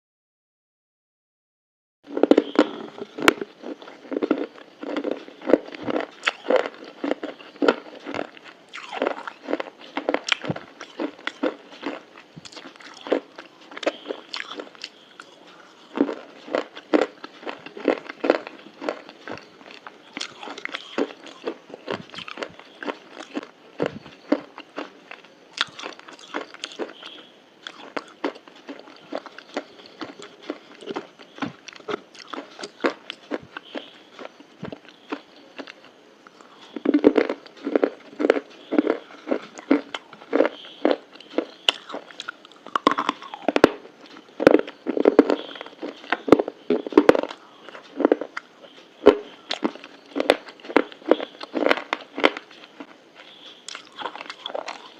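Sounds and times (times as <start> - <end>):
crunching and chewing: 2.1 - 54.9.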